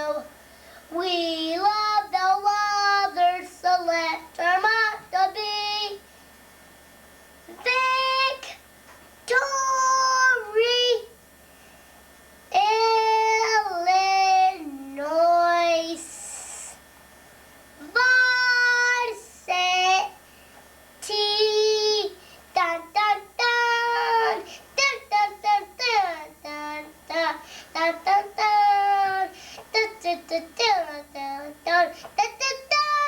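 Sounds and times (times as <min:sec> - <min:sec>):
child singing: 0:00.0 - 0:00.3, 0:00.9 - 0:06.0, 0:07.5 - 0:08.6, 0:09.3 - 0:11.2, 0:12.5 - 0:16.6, 0:17.8 - 0:20.2, 0:21.0 - 0:33.0.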